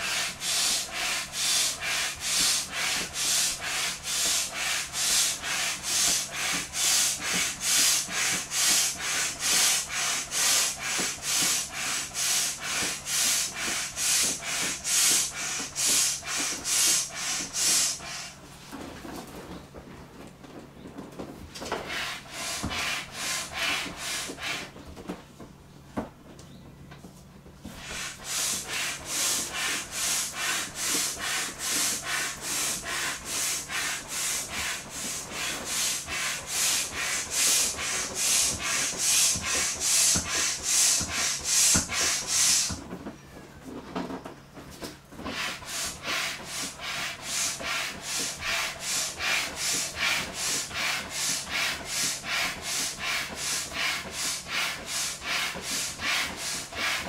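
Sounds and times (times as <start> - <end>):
hand air pump strokes: 0.0 - 18.4, 21.8 - 24.8, 27.7 - 42.8, 45.2 - 57.0.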